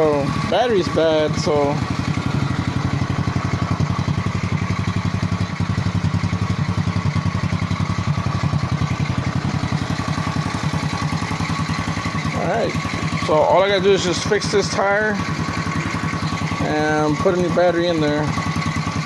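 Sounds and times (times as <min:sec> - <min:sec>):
quad engine idling: 0:00.0 - 0:19.0.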